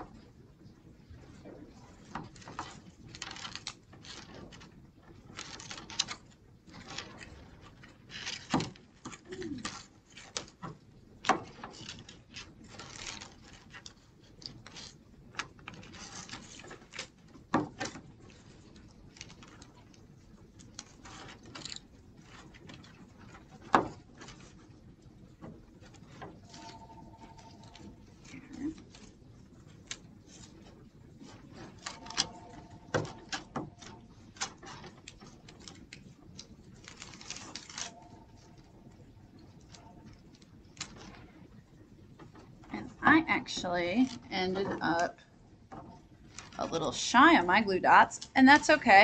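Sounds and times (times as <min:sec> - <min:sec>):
paper rustling and crinkling: 0:01.2 - 0:42.9, 0:46.1 - 0:47.2.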